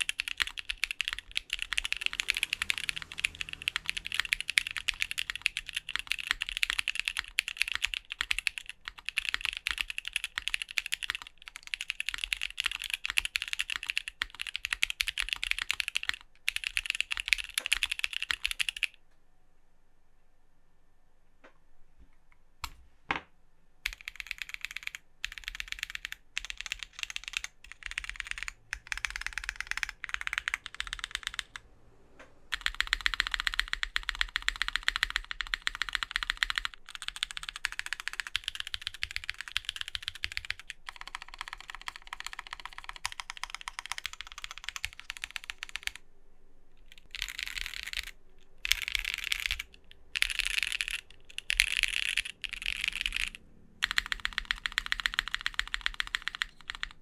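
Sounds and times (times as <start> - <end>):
mechanical keyboard typing: 0.0 - 19.0, 23.9 - 31.6, 32.5 - 46.0, 46.9 - 57.0.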